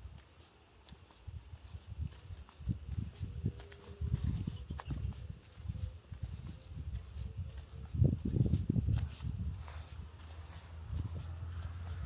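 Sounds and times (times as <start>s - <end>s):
footsteps on woodland path: 0.0s - 12.0s.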